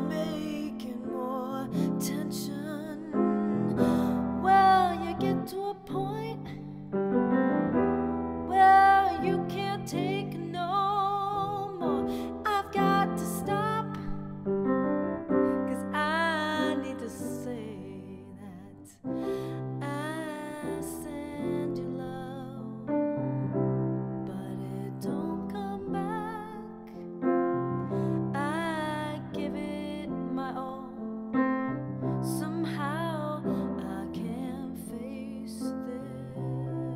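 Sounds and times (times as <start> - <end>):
woman singing with vibrato: 0.0 - 6.8, 8.5 - 14.4, 15.5 - 22.8, 24.3 - 26.9, 28.1 - 31.0, 32.2 - 36.9
grand piano chords: 0.0 - 36.9.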